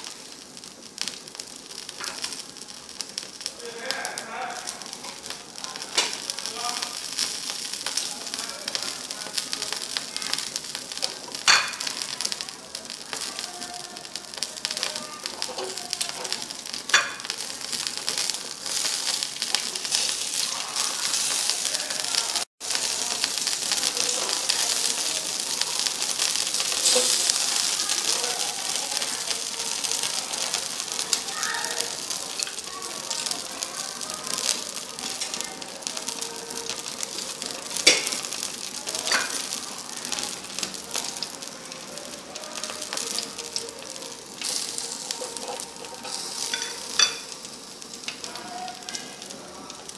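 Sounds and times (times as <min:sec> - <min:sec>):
ribs sizzling on a grill: 0:00.0 - 0:49.9.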